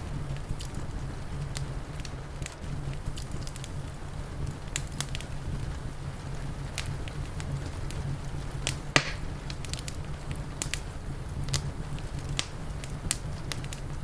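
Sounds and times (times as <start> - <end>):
loud fire snap: 0.0 - 14.0
wood fire crackling: 0.0 - 14.0.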